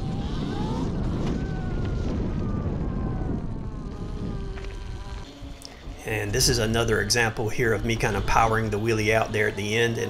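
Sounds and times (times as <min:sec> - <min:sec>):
electric motorcycle motor whine: 0:00.0 - 0:10.0
wind buffeting microphone: 0:00.0 - 0:10.0.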